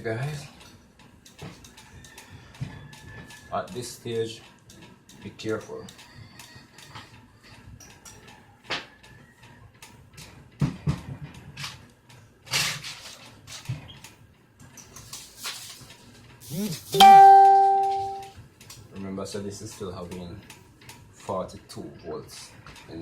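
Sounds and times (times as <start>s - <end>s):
tools clicking and knocking on metal: 0.0s - 15.1s, 17.2s - 23.0s.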